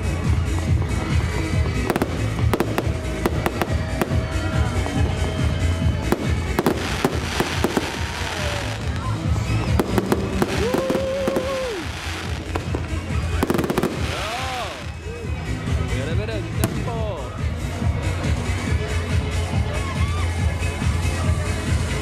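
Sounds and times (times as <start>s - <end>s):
fireworks bangs and crackles: 0.0s - 18.4s.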